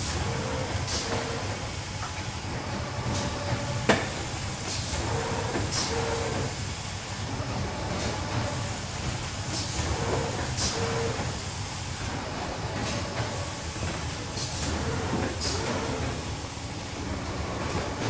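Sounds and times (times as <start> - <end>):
machine hum and hiss: 0.0 - 18.0.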